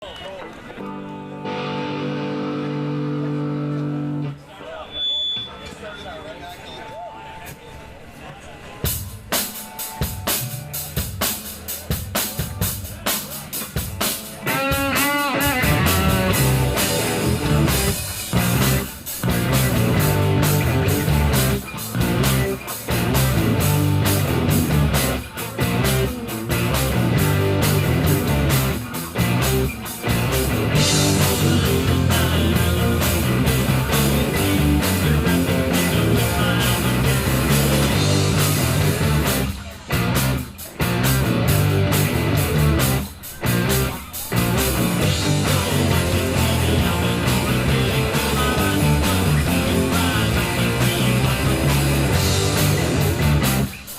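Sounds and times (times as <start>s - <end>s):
electric guitars: 0.7s - 4.4s, 8.8s - 53.9s
bass guitar: 0.8s - 4.4s, 10.0s - 53.9s
drum kit: 8.8s - 53.9s.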